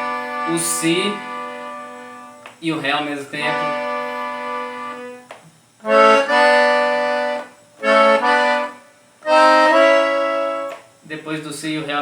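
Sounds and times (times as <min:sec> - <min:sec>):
accordion chords: 0:00.0 - 0:12.0.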